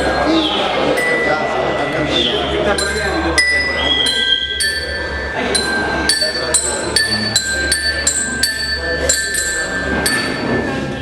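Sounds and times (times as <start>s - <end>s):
tuned percussion melody: 0.0s - 11.0s.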